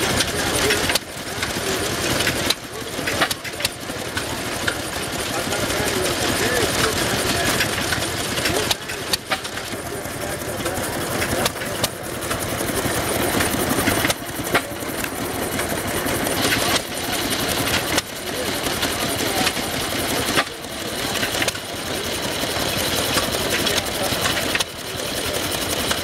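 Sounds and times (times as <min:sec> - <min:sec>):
gas engine running: 0:00.0 - 0:26.0.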